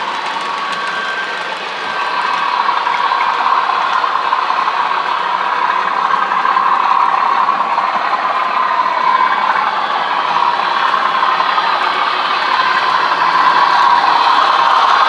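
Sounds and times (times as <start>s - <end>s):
diesel locomotive sound from small speaker: 0.0s - 15.0s
model trains running on track: 0.0s - 15.0s.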